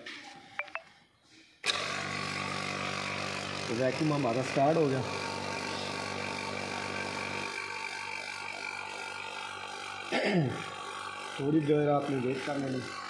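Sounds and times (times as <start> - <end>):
vacuum pump running: 1.6 - 13.0.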